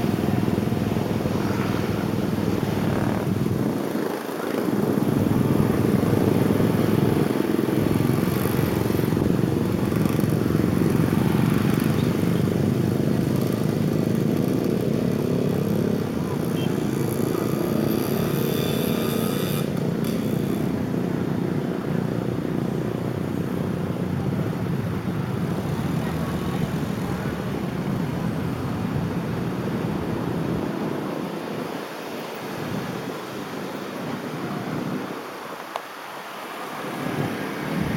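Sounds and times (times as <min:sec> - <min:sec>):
passing traffic: 0:00.0 - 0:37.9
wind and road noise: 0:00.0 - 0:37.9.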